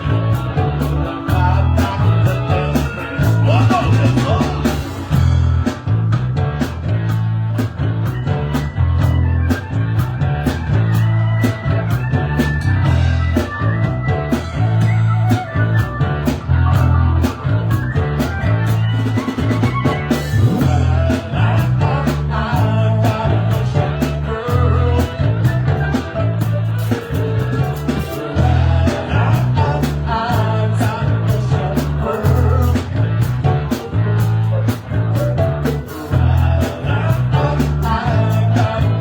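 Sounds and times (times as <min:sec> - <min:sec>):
band playing blues-rock: 0:00.0 - 0:39.0.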